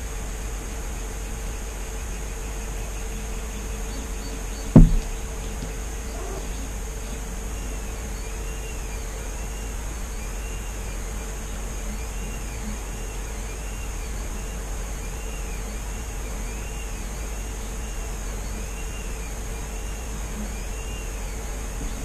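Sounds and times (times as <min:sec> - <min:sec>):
mechanical hum and hiss: 0:00.0 - 0:22.0.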